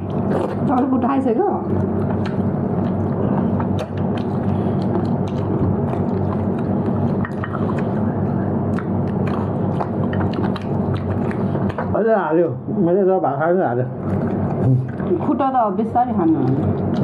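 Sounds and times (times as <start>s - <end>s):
wet chewing clicks and smacks: 0.0s - 12.0s, 13.9s - 15.3s, 15.9s - 17.0s
low background hum: 0.0s - 17.0s.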